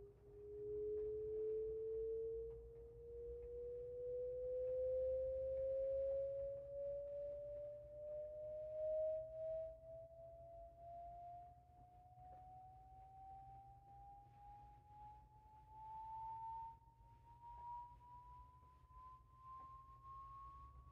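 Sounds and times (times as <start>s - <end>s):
rising sine-wave test sweep: 0.0s - 20.9s.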